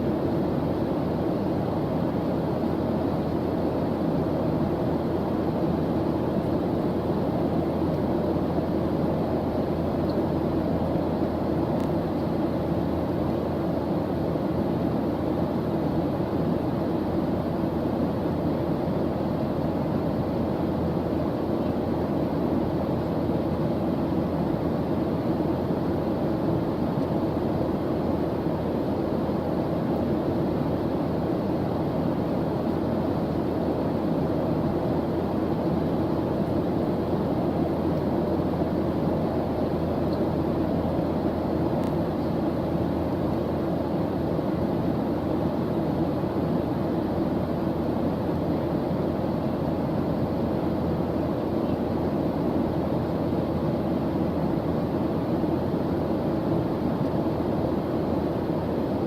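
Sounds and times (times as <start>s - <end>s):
low rushing white noise hiss: 0.0s - 59.0s.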